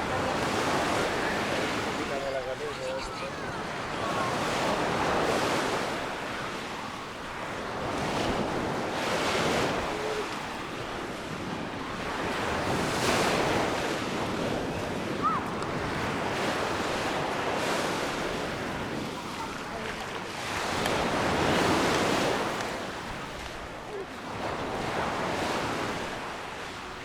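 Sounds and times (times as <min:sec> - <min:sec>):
waves breaking on shore: 0:00.0 - 0:27.0.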